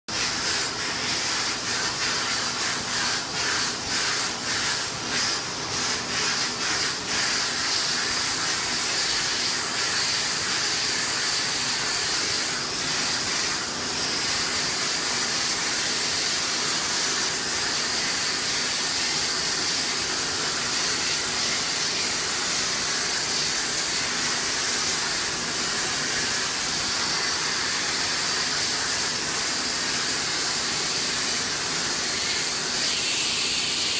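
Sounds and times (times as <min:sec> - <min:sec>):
steam cleaner hissing: 0:00.1 - 0:33.9.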